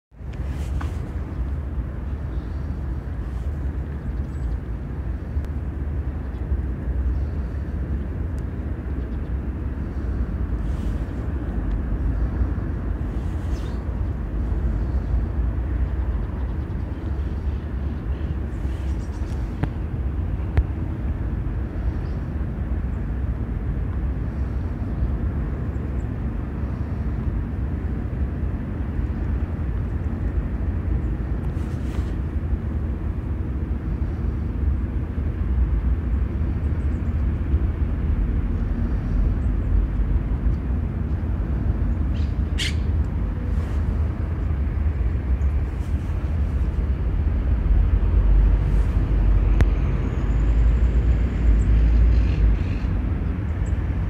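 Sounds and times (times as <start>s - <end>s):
distant city traffic rumble: 0.1s - 54.0s.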